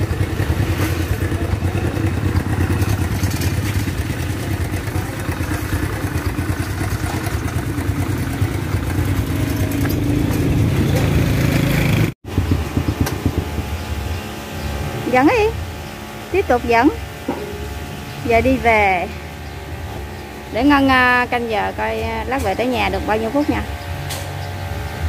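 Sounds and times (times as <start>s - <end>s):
motorbike engine idling: 0.0s - 24.9s.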